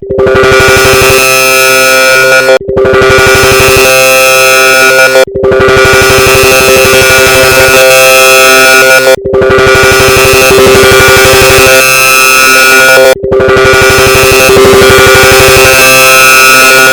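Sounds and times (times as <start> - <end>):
dense distorted notification drone: 0.0 - 16.9.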